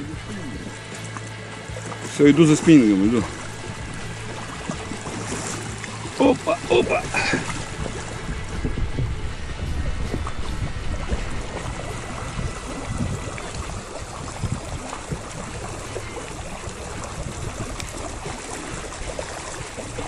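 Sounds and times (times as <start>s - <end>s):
river water rippling: 0.0s - 20.0s.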